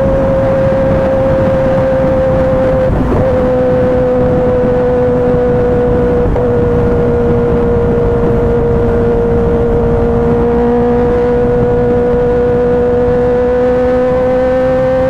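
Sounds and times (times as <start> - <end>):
motorcycle engine at high revs: 0.0 - 15.0
wind and road noise: 0.0 - 15.0.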